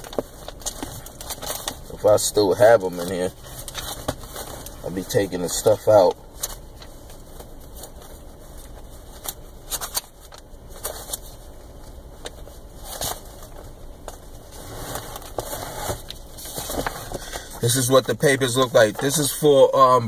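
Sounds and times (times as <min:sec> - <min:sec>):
papers rustling and crinkling: 0:00.0 - 0:19.7.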